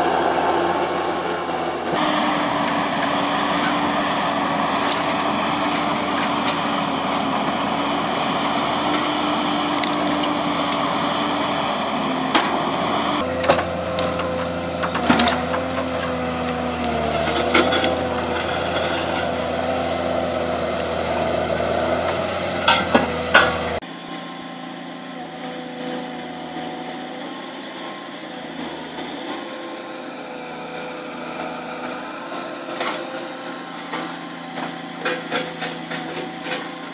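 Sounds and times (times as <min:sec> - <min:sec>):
diesel engine and hydraulics: 0:00.0 - 0:36.9.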